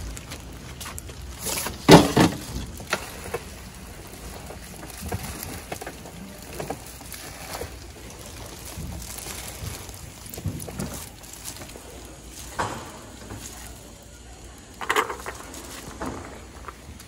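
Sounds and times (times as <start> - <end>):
gloved hands rustling noodles: 0.0 - 17.0.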